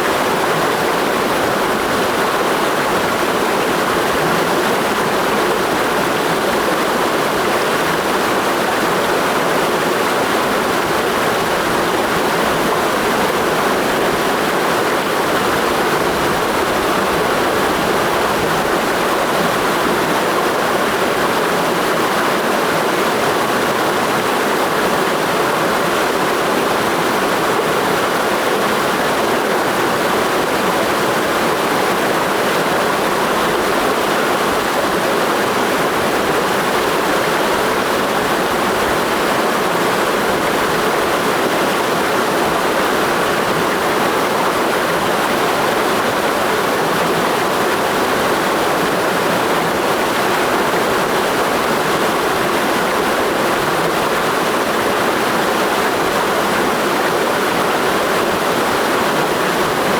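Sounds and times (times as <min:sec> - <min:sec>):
stream rushing water: 0:00.0 - 0:59.9.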